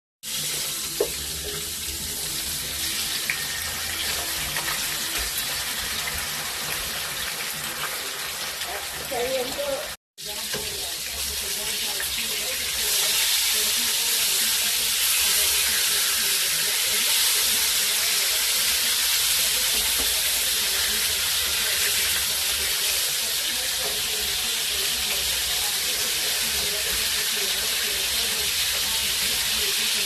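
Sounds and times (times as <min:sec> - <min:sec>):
food sizzling in hot oil: 0:00.2 - 0:30.0.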